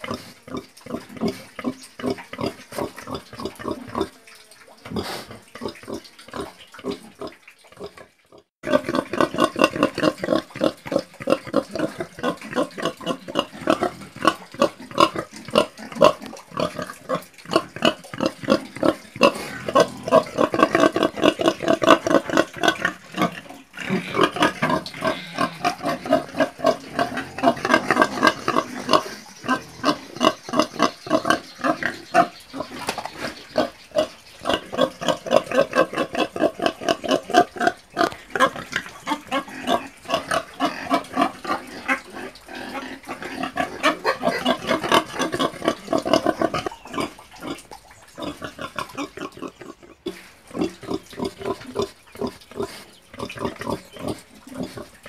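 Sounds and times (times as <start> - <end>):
pigs grunting: 0.0 - 4.2, 4.9 - 55.0.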